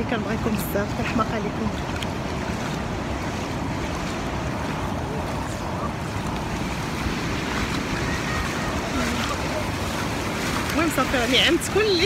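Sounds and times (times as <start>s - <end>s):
ocean surf on sandy beach: 0.0s - 12.0s
wind buffeting microphone: 0.0s - 12.0s.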